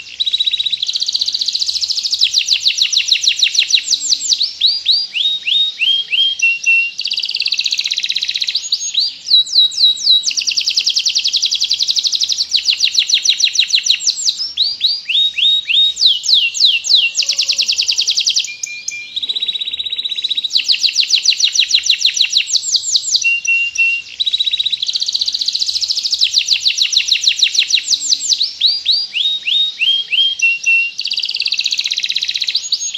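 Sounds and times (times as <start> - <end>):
canary singing trills: 0.0 - 32.9.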